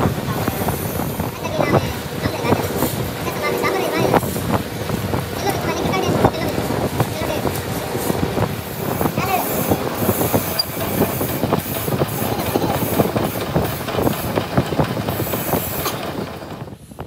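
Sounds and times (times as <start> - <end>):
lathe drilling metal: 0.3 - 16.6.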